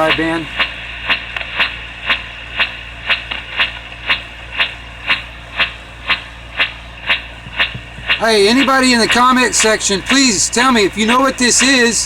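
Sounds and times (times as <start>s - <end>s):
radio signal ticks: 0.0s - 12.0s
radio static hiss: 0.0s - 12.0s.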